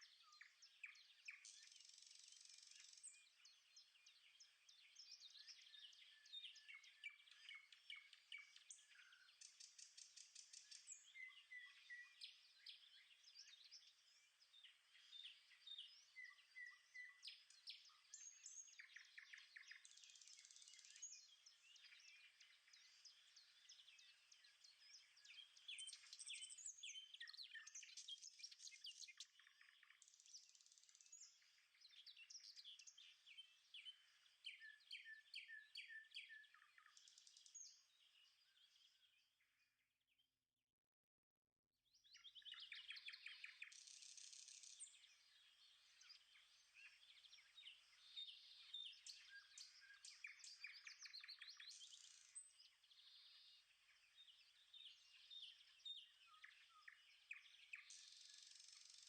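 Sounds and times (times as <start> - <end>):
birds chirping and singing: 0.0 - 39.2, 42.0 - 59.0.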